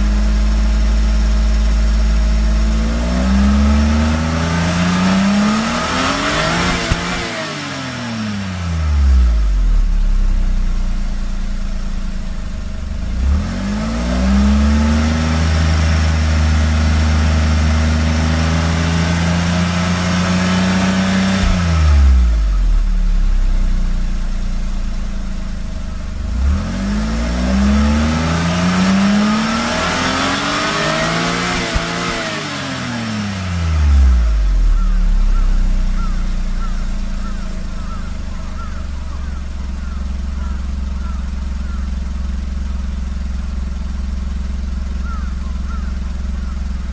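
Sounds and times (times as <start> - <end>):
car engine revving and idling: 0.0 - 46.9.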